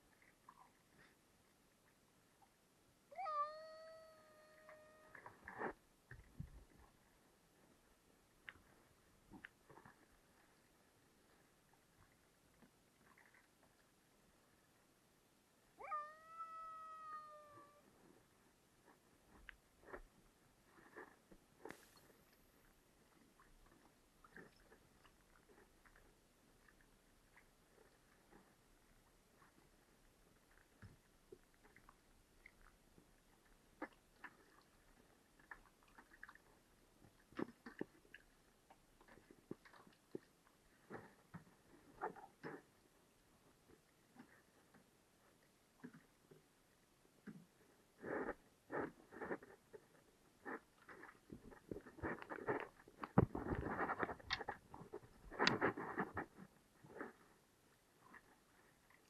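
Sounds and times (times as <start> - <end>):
rustling and scraping in a kayak: 4.6 - 14.5, 17.4 - 59.0.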